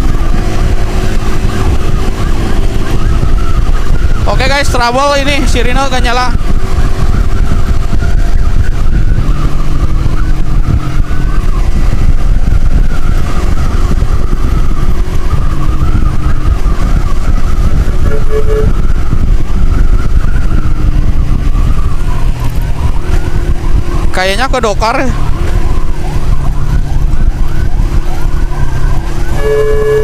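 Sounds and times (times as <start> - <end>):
motorcycle engine running: 0.0 - 30.0
wind rumble on microphone: 0.0 - 30.0.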